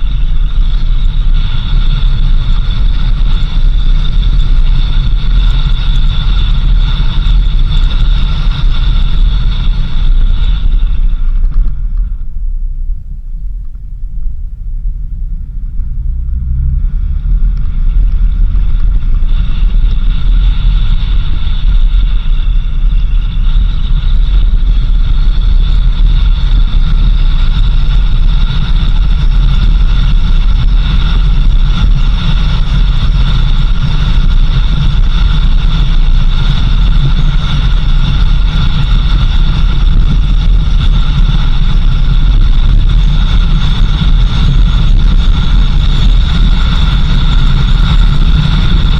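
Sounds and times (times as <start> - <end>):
vehicle rumble on dirt road: 0.0 - 48.9.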